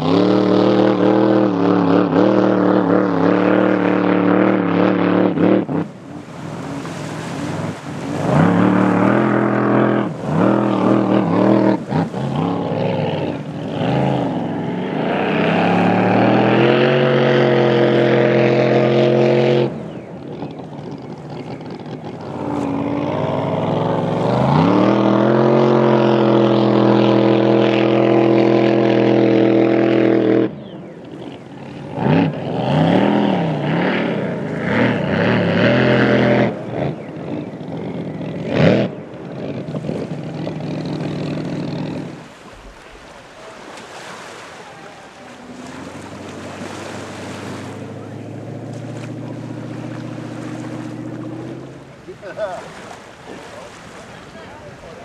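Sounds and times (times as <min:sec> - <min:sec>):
boat engine revving: 0:00.0 - 0:55.0.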